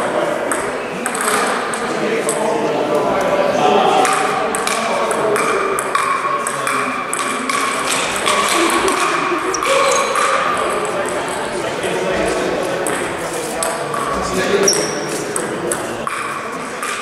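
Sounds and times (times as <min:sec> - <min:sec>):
background chatter: 0:00.0 - 0:17.0.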